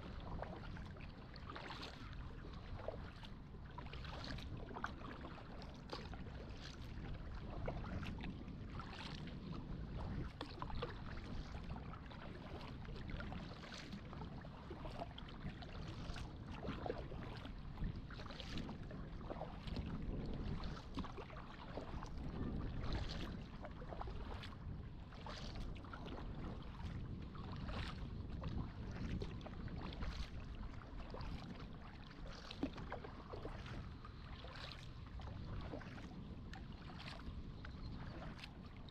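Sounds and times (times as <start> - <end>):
paddle strokes splashing water: 0.0 - 38.9
wind rumble on microphone: 0.0 - 38.9.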